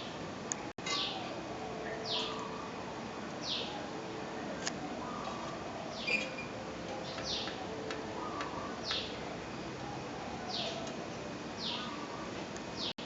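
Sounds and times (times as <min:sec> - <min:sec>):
bird chirping: 0:00.8 - 0:02.7, 0:03.4 - 0:13.0.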